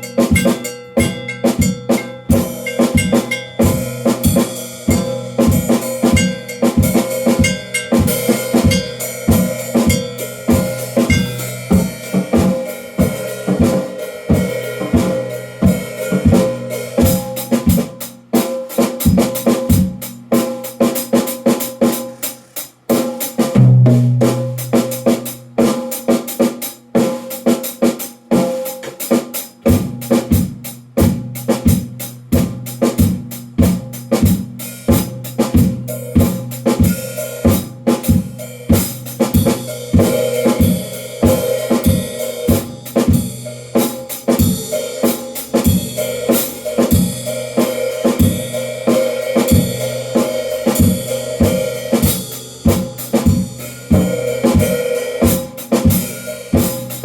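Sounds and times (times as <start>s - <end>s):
bass drum and snare beat: 0.0s - 57.0s
cymbals and hi-hat: 0.0s - 57.0s.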